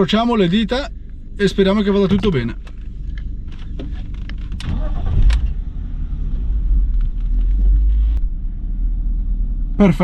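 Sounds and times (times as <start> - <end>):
car engine starting and idling: 0.0 - 10.0.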